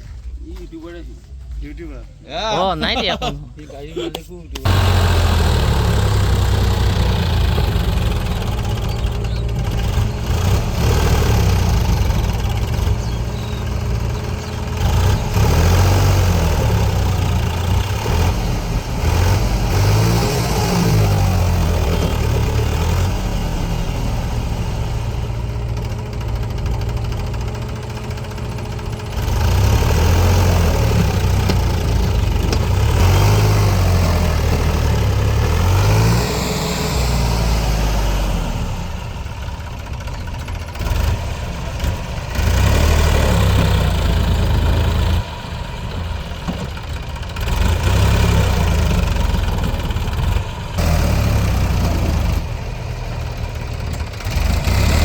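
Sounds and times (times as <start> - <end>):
tractor engine revving: 4.5 - 55.0.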